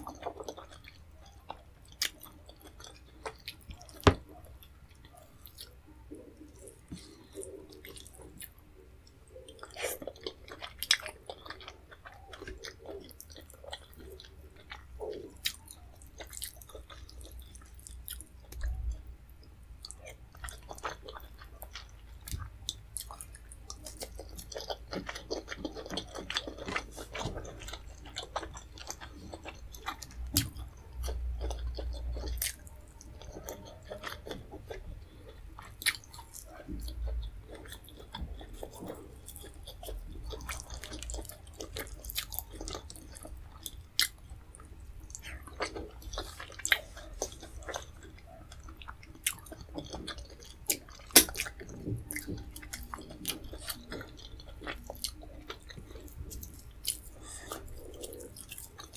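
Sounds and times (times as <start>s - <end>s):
chewing and wet mouth sounds: 0.0s - 58.9s.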